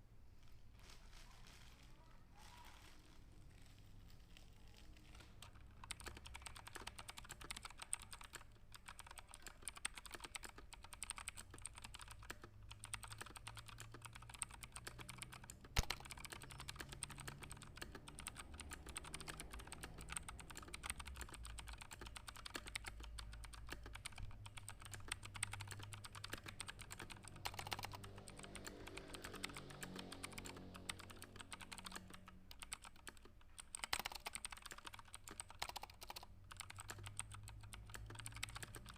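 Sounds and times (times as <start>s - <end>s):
fast keyboard typing: 5.0s - 38.9s.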